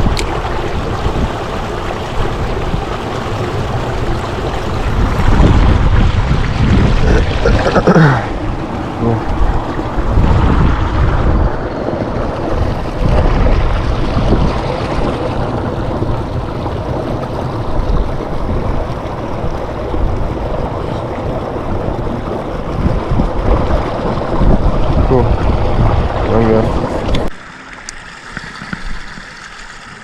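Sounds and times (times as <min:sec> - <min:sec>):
wind buffeting microphone: 0:00.0 - 0:27.3.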